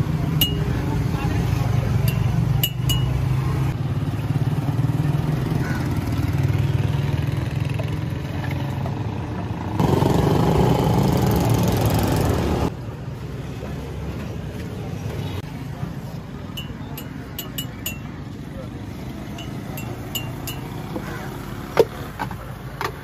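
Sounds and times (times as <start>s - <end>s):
motorcycle engines: 0.0s - 23.0s
street traffic hum: 0.0s - 23.0s.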